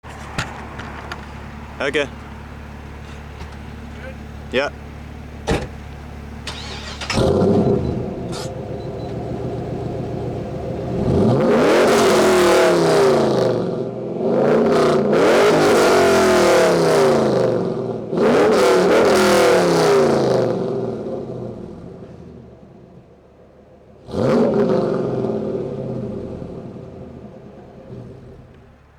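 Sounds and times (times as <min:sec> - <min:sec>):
car engine revving: 0:00.0 - 0:23.2, 0:23.8 - 0:28.9.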